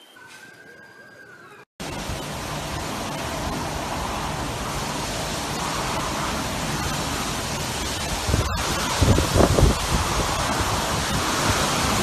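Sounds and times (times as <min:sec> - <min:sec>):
wind and heavy rain: 0:01.8 - 0:12.0.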